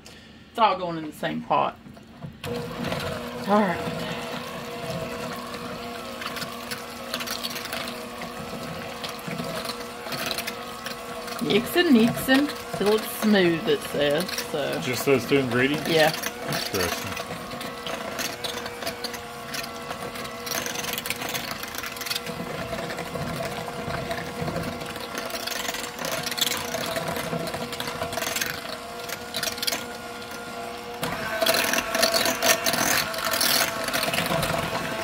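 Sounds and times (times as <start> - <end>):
electric hand mixer whining: 2.2 - 35.0.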